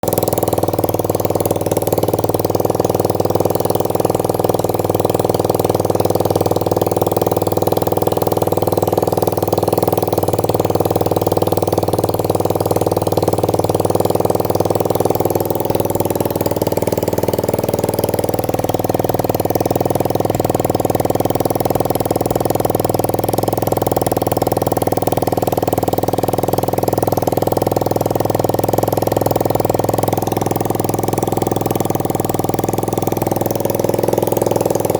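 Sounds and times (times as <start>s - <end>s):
moped engine idling: 0.0s - 34.9s.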